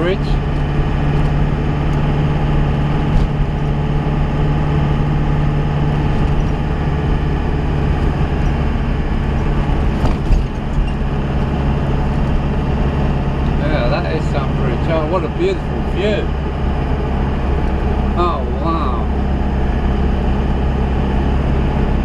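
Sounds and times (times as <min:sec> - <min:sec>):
car engine drone: 0:00.0 - 0:22.0
road and tyre noise: 0:00.0 - 0:22.0.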